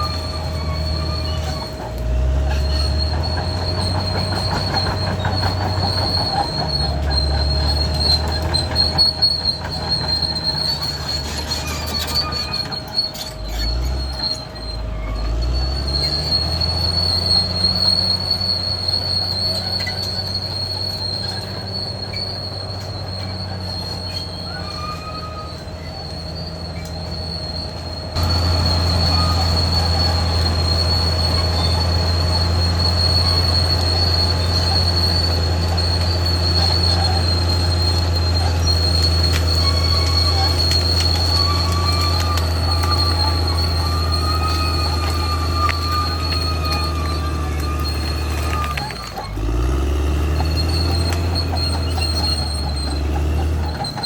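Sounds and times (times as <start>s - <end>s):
diesel engine under load: 0.0s - 54.0s
steel tracks squealing and clattering: 0.0s - 54.0s.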